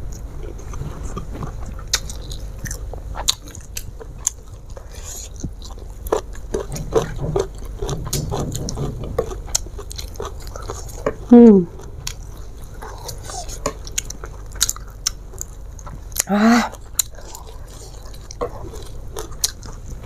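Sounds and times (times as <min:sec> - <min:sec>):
low steady hum: 0:00.0 - 0:20.0
person chewing with lip smacks: 0:00.1 - 0:19.9.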